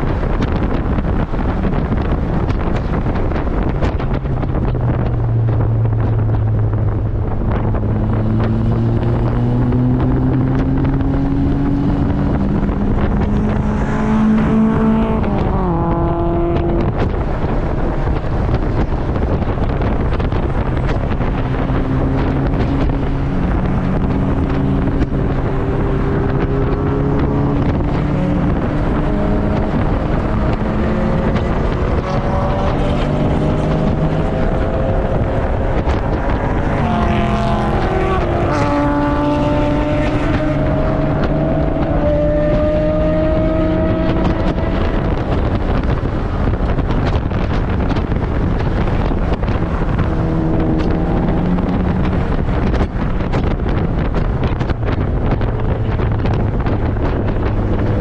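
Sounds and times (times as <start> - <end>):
turbocharged car engine revving: 0.0 - 58.0
wind rush: 0.0 - 58.0.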